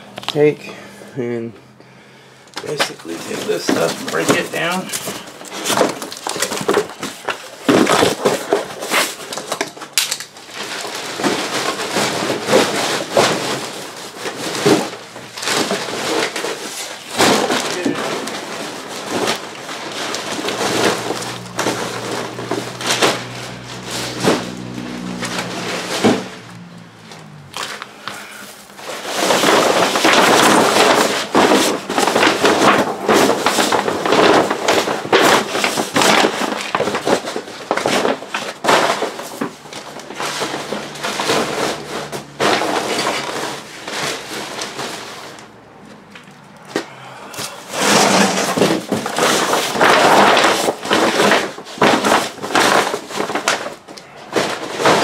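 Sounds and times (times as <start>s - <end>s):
boxes crackling and crunching: 2.1s - 55.0s.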